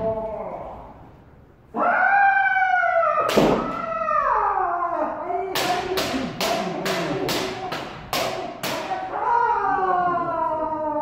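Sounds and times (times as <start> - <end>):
long drawn-out shout: 1.7 - 11.0.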